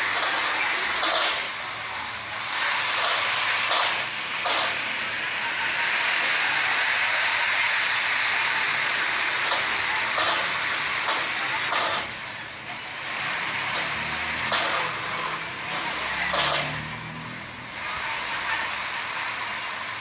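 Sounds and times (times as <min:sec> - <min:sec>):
vehicles driving over steel ramps: 0:00.0 - 0:06.3, 0:09.4 - 0:20.0.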